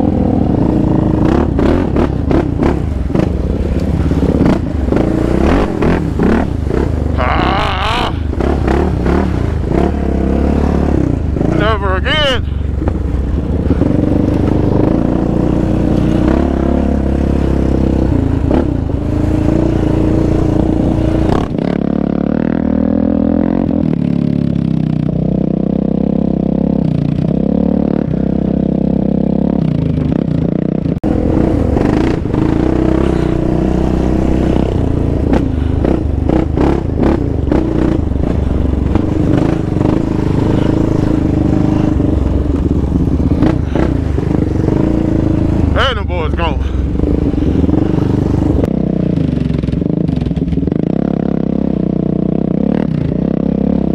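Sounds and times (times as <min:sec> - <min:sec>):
quad engine running: 0:00.0 - 0:53.9.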